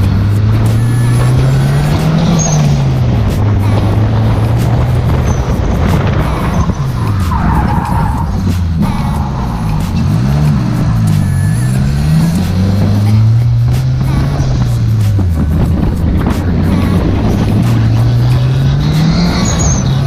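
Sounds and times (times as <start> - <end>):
car engine revving hard: 0.0 - 20.0
steady rushing noise: 0.0 - 20.0.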